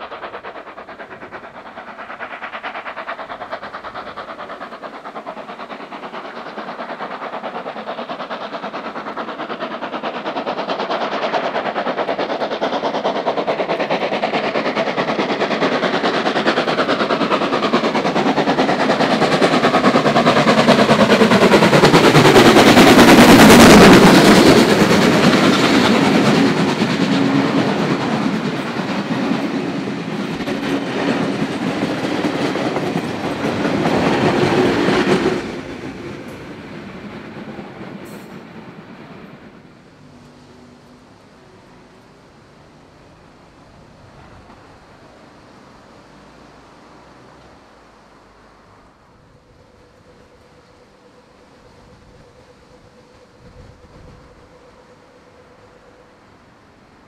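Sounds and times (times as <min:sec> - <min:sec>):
train wheels clacking over rails: 0:00.0 - 0:47.7
steam locomotive exhaust beats: 0:00.0 - 0:57.0.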